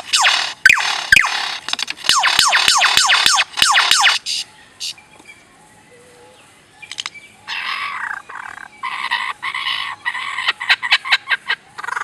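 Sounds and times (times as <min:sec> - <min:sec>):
bird harsh raspy calls: 0:00.0 - 0:05.0, 0:06.8 - 0:12.0.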